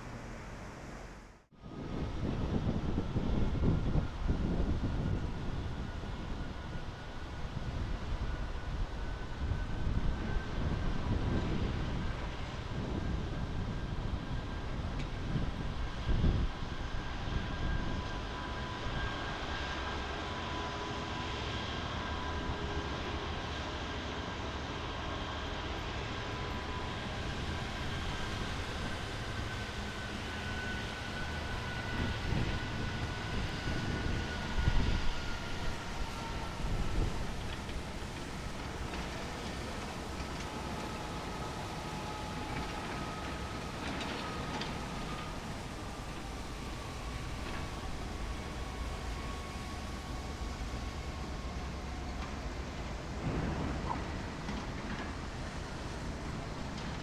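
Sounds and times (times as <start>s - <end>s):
train whine: 0.0s - 57.0s
wind gusts on microphone: 1.6s - 57.0s.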